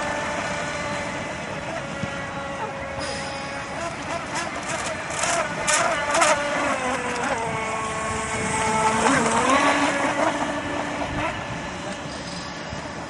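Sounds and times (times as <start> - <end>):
model boat motor whining: 0.0 - 13.0.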